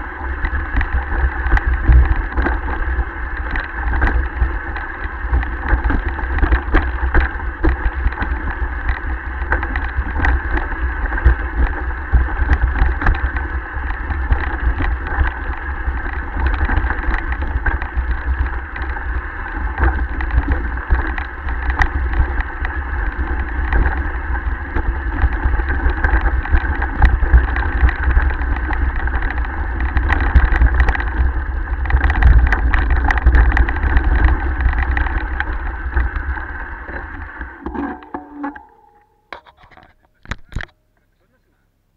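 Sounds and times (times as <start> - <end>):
wind rumble on microphone: 0.0 - 39.0
mountain bike rattling over rocks: 0.0 - 40.6.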